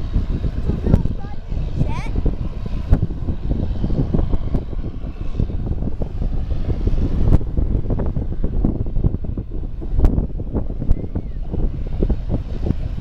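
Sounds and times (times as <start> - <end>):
aircraft engines rumbling: 0.0 - 13.0
low thumps and crackles: 0.0 - 13.0.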